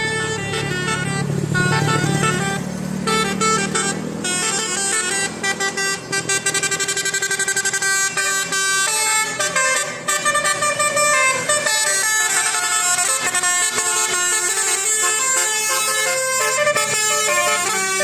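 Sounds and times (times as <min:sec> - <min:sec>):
musical air horn tune: 0:00.0 - 0:18.0.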